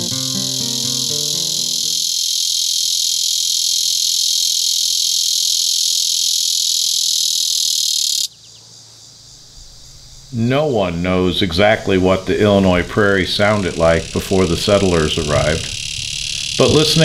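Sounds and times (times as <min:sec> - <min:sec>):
cicada buzzing: 0:00.0 - 0:17.0.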